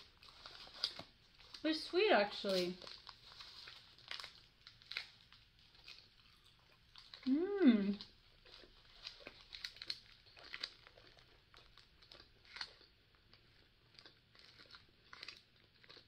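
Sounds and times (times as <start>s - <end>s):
snack wrapper crinkling: 0.0s - 16.0s
soft chewing: 0.0s - 16.0s.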